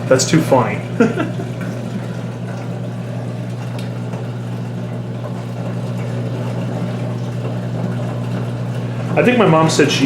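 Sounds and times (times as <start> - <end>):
washing machine motor humming: 0.0 - 10.0.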